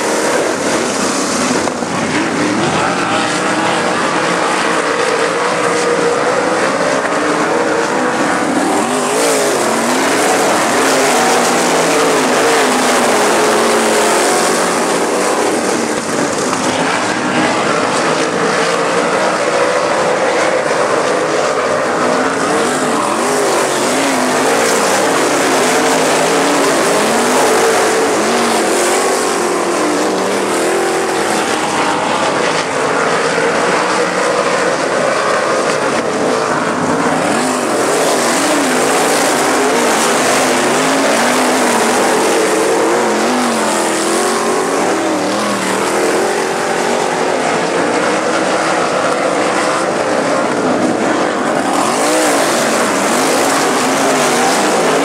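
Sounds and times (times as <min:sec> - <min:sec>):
racing car engines: 0:00.0 - 0:55.0.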